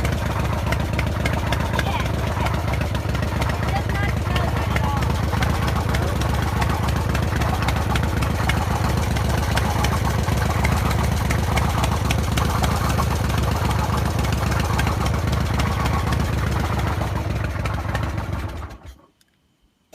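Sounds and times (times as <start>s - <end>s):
fast ticking noise: 0.0s - 18.2s
motorcycle engine running: 0.0s - 18.9s.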